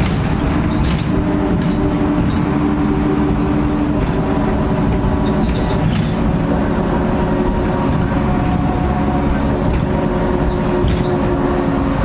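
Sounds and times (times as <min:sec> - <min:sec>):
body squeaks and rattles: 0:00.0 - 0:11.4
bus engine rumble: 0:00.0 - 0:12.0.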